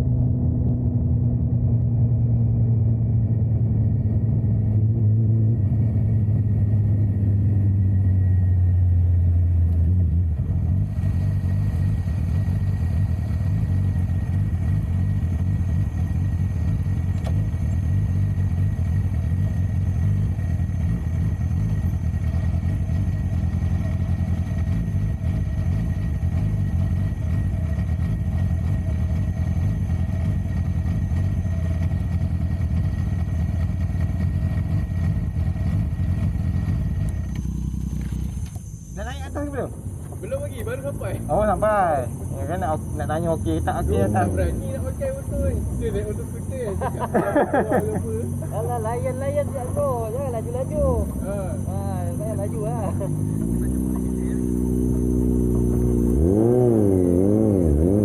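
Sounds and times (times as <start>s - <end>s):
motorcycle engine slowing: 0.0s - 58.0s.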